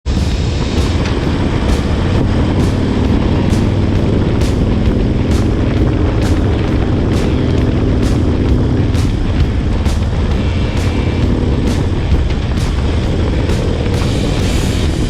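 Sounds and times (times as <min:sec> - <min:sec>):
motorcycle engine running: 0:00.0 - 0:15.0
music with steady beat: 0:00.0 - 0:15.0.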